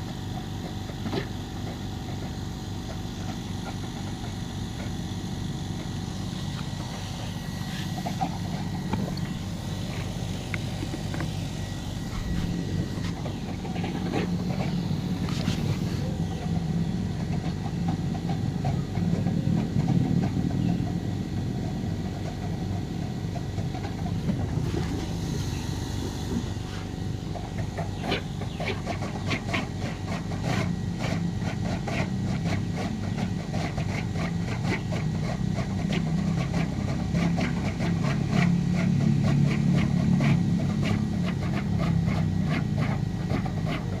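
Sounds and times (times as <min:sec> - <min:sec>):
low motor drone: 0:00.0 - 0:44.0.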